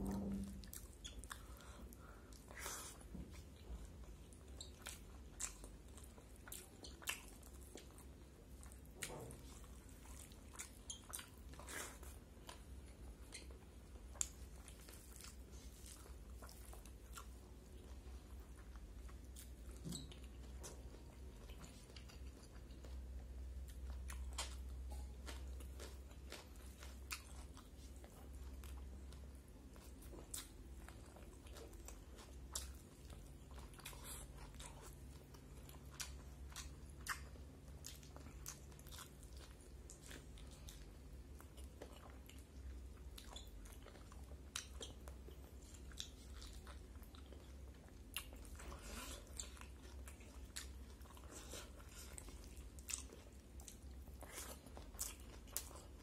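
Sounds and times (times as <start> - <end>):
person chewing food: 0.0 - 56.0
steady low hum: 0.0 - 56.0.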